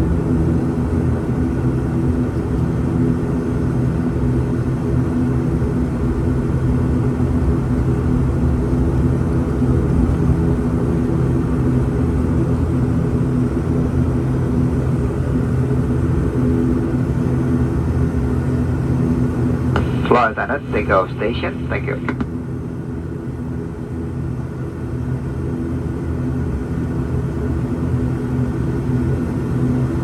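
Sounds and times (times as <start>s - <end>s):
turboprop engines droning in cabin: 0.0s - 30.0s.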